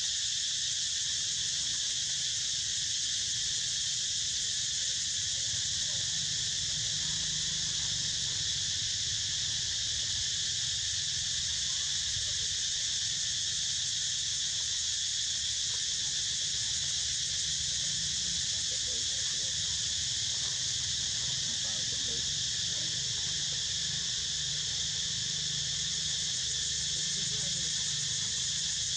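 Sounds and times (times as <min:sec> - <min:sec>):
high-pitched insect chorus: 0:00.0 - 0:28.9.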